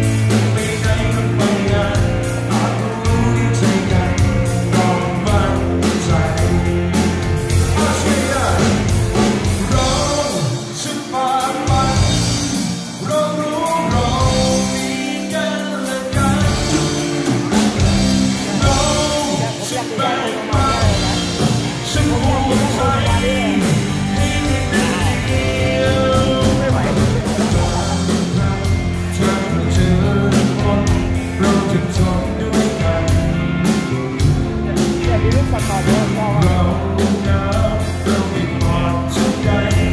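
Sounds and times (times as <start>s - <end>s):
drum kit: 0.0s - 39.9s
electric bass: 0.0s - 39.9s
electric guitars: 0.0s - 39.9s
man singing: 0.0s - 39.9s.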